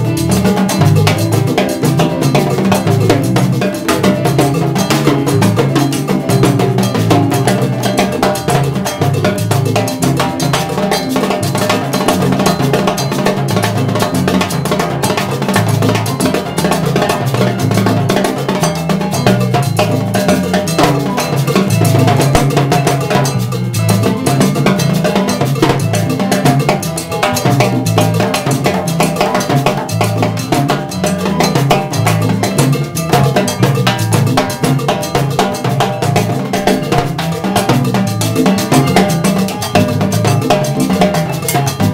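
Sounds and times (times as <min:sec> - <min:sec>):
electric bass line: 0:00.0 - 0:41.9
keyboard: 0:00.0 - 0:41.9
timbales with cowbell and block: 0:00.0 - 0:41.9.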